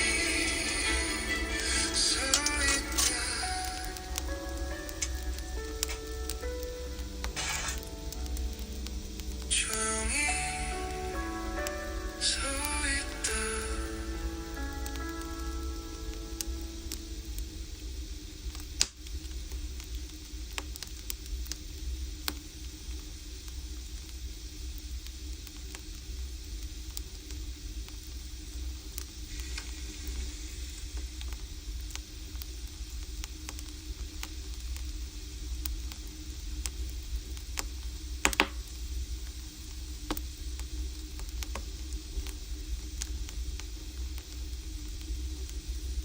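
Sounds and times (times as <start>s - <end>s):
fire crackling pops: 0.0s - 46.0s
firewood burning with hiss: 0.0s - 46.0s.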